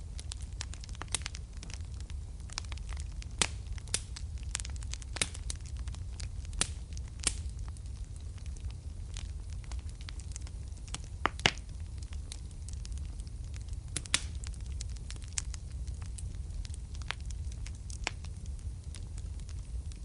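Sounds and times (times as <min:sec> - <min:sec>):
fire crackling and popping: 0:00.0 - 0:20.0
low rumble of fire: 0:00.0 - 0:20.0.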